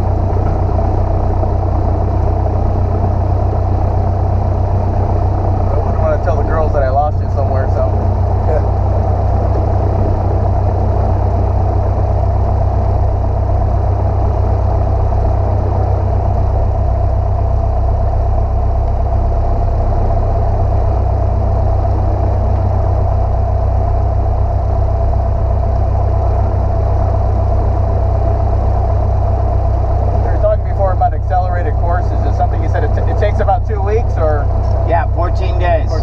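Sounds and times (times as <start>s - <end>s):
light aircraft engine drone: 0.0s - 36.0s.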